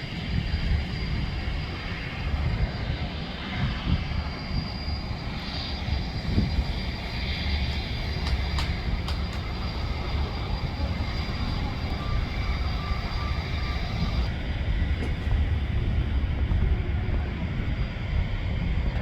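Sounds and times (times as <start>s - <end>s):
aircraft engine rumble: 0.0s - 19.0s
faint high engine whine: 0.0s - 19.0s.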